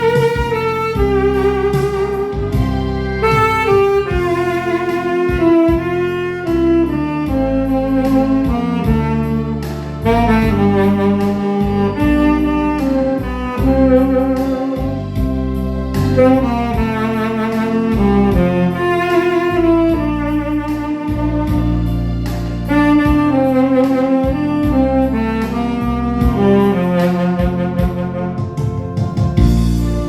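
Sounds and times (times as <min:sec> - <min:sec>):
backing track with bass and keyboard: 0:00.0 - 0:30.0
saxophone ballad melody: 0:00.0 - 0:30.0.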